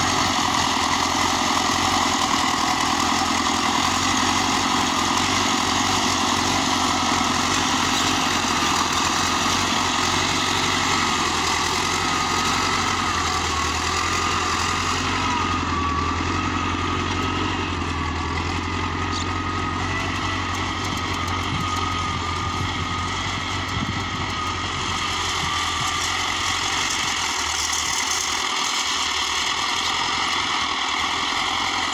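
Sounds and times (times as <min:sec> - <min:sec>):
thin wavering whine: 0:00.0 - 0:27.4
diesel tractor engine idling: 0:00.0 - 0:31.9.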